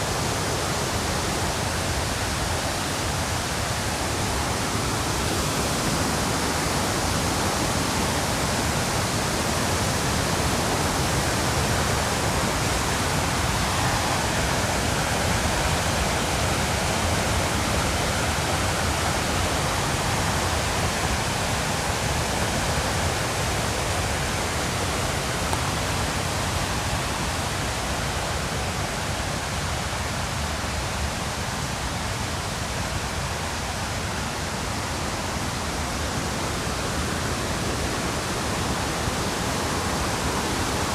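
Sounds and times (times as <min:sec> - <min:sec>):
river rapids rushing: 0:00.0 - 0:40.9.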